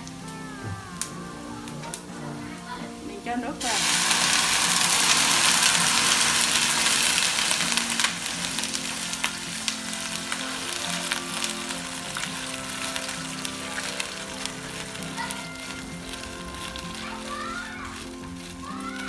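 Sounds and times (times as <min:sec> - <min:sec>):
crackles in wok: 0:00.0 - 0:19.0
water hissing in hot oil: 0:00.0 - 0:19.0.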